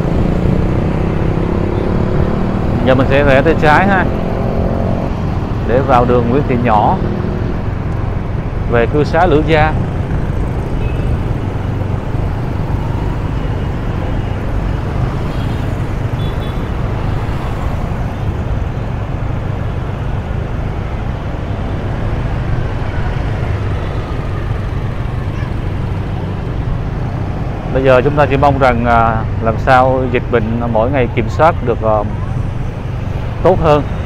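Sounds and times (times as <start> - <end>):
vehicle rumbling through traffic: 0.0 - 34.0.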